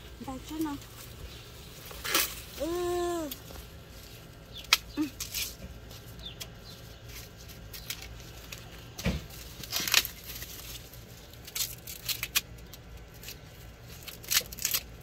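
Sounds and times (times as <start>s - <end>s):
rustling and scraping: 0.0s - 15.0s.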